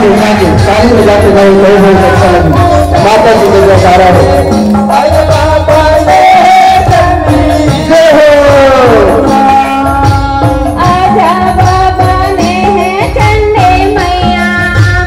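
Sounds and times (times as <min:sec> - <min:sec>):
person singing over loudspeakers: 0:00.0 - 0:15.0
steady drum beat: 0:00.0 - 0:15.0.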